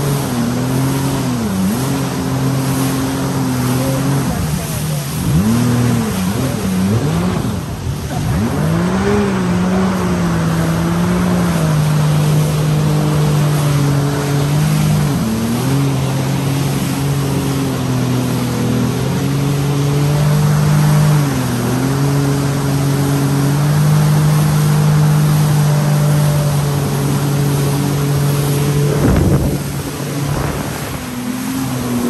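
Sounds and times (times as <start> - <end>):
jet ski engine running: 0.0 - 32.0
rushing water: 0.0 - 32.0.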